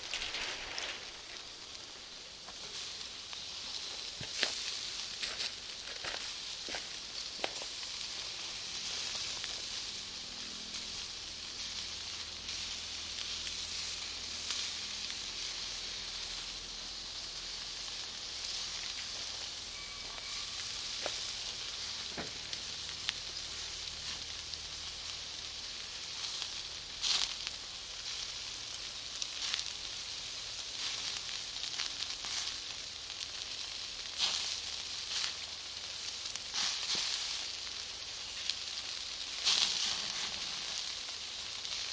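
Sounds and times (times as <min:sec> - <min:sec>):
charcoal crackling and popping: 0:00.0 - 0:41.9
fire hissing: 0:00.0 - 0:41.9.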